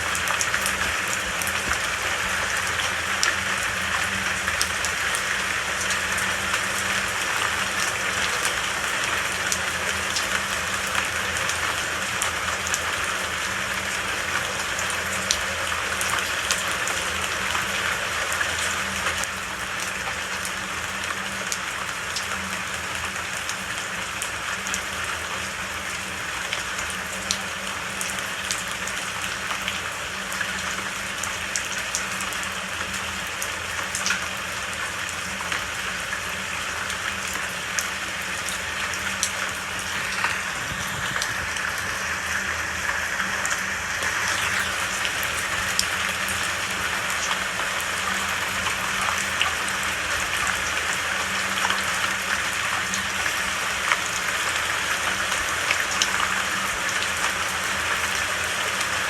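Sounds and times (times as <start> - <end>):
raindrops ticking on hard surface: 0.0 - 59.0
steady rain hiss: 0.0 - 59.0.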